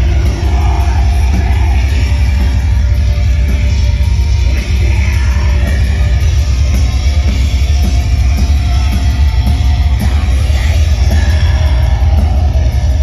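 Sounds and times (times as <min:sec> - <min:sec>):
bass guitar: 0:00.0 - 0:13.0
distorted electric guitar: 0:00.0 - 0:13.0
drums: 0:00.0 - 0:13.0.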